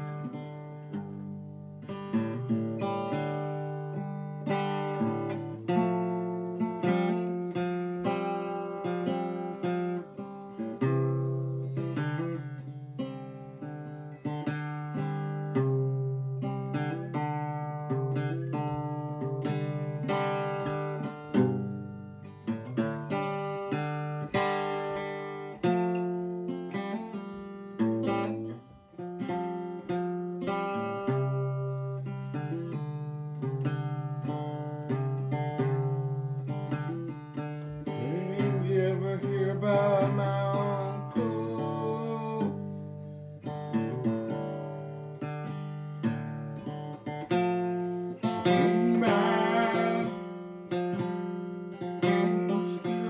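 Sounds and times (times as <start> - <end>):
acoustic guitar chords: 0.0 - 53.0.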